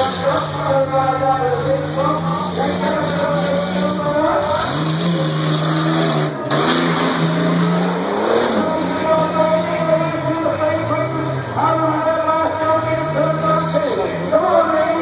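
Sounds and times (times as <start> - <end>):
suv engine revving high: 0.0 - 14.9.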